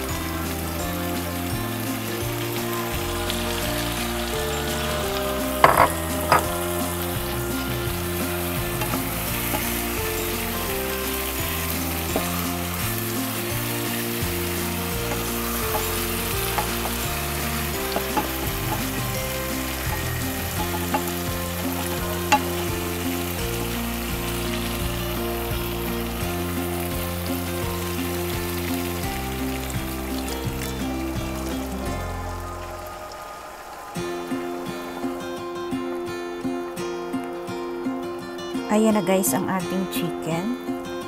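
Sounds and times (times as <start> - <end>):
chicken sizzling in a pan: 0.0 - 36.4.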